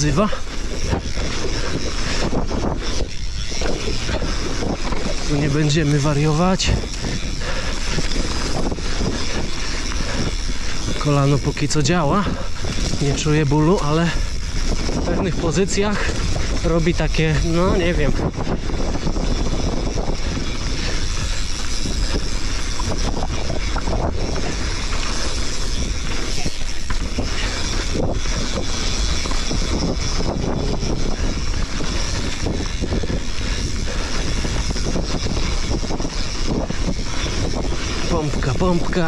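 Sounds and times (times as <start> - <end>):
bike tyres rolling on dirt: 0.0 - 39.0
wind on microphone: 0.0 - 39.0.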